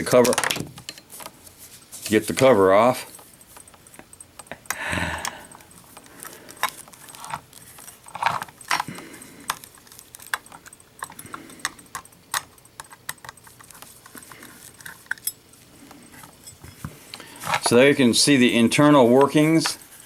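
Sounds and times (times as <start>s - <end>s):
small metal parts clinking: 1.9s - 19.8s.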